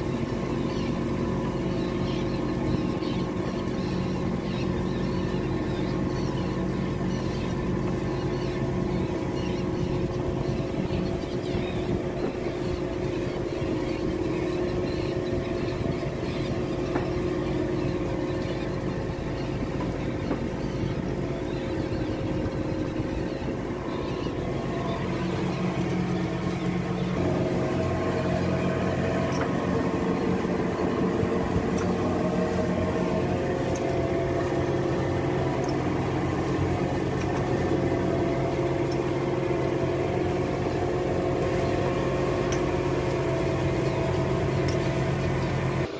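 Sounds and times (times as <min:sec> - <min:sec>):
boat engine humming: 0:00.0 - 0:45.9.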